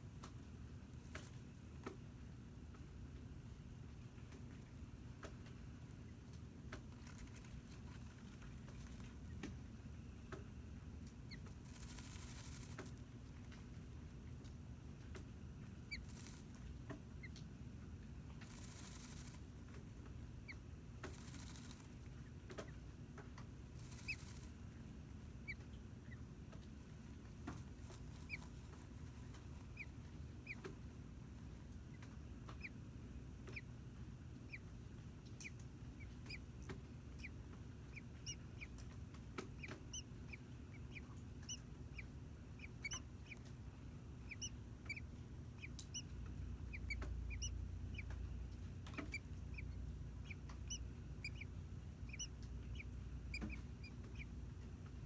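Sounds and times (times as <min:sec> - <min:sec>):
low steady hum: 0:00.0 - 0:55.0
nestlings peeping: 0:03.7 - 0:55.0.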